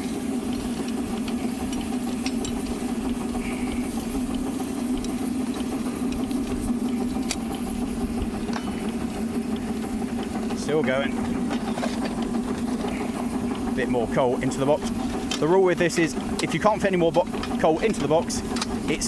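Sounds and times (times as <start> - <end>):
light track clicks: 0.0 - 19.0
miniature steam locomotive running: 0.0 - 19.0.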